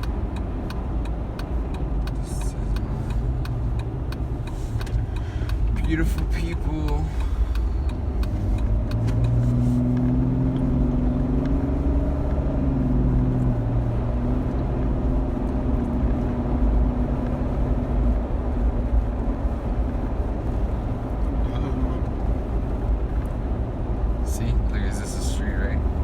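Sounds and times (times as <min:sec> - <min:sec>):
engine and road rumble: 0:00.0 - 0:26.0
low engine hum: 0:00.0 - 0:26.0.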